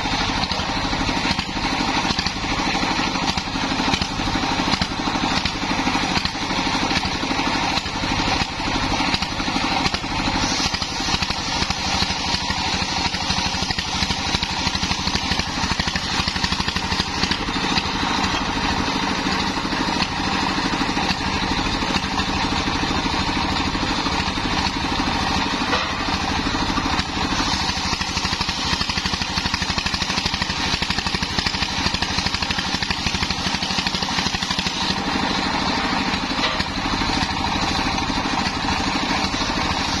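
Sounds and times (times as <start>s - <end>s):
circular saw ripping through log: 0.0s - 40.0s
stationary engine chugging: 0.0s - 40.0s.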